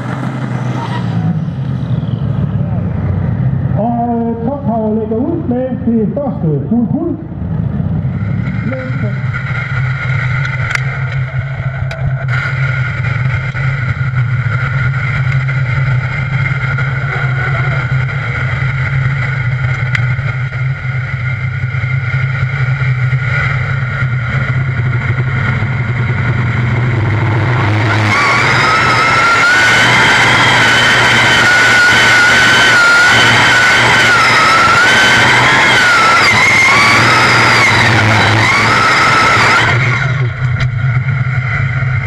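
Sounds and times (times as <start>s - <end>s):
rising engine whine: 0.0s - 42.0s
tractor engine idling and revving: 0.0s - 42.0s.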